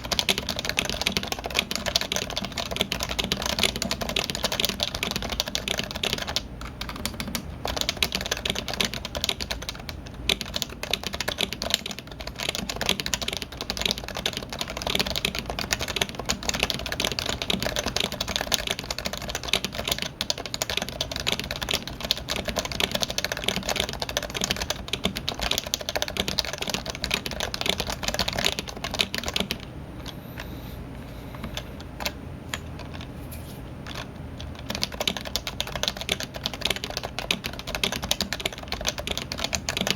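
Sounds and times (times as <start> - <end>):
fast keyboard typing: 0.0 - 29.7, 33.8 - 39.9.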